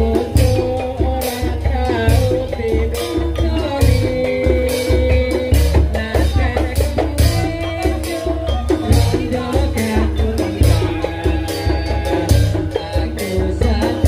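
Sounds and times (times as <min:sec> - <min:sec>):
folk music through sound system: 0:00.0 - 0:14.0
heavy bass drum beats: 0:00.0 - 0:14.0.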